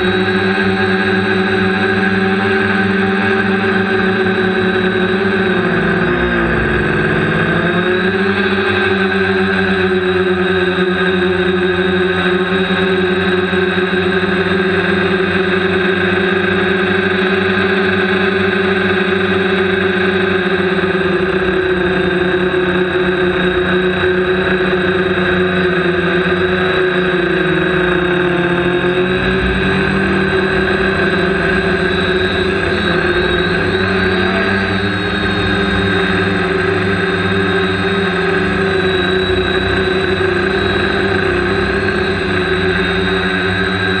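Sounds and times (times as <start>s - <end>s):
drone propellers whirring: 0.0s - 44.0s.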